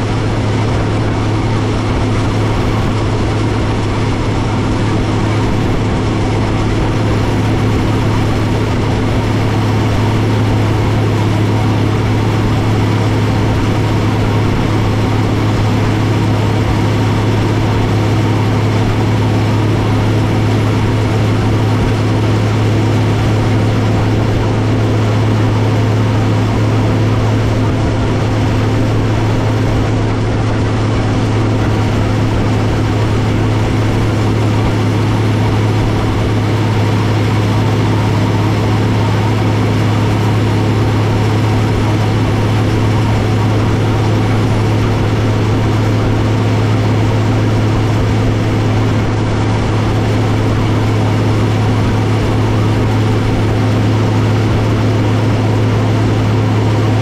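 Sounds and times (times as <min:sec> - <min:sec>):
diesel tractor engine drone: 0:00.0 - 0:57.0.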